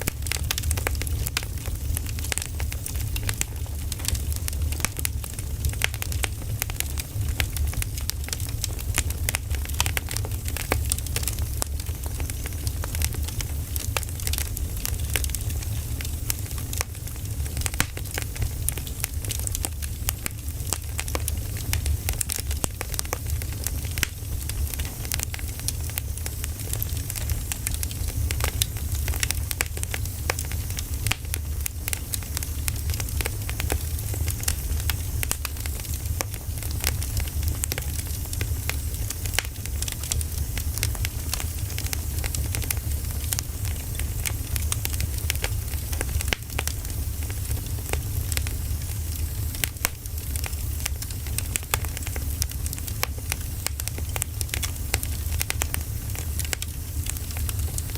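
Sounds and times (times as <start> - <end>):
fire hissing: 0.0 - 57.9
firewood crackling and popping: 0.0 - 57.9.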